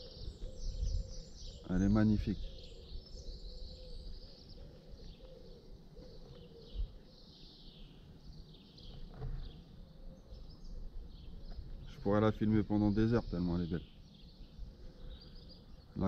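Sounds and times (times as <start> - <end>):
faint birdsong chirping: 0.0 - 16.0.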